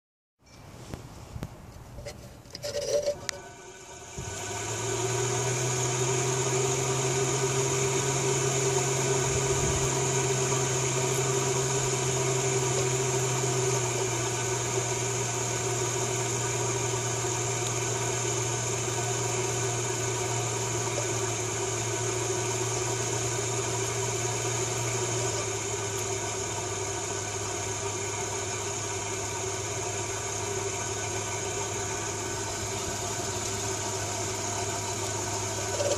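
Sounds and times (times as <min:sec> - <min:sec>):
electric blower humming and whining: 0:03.0 - 0:35.9.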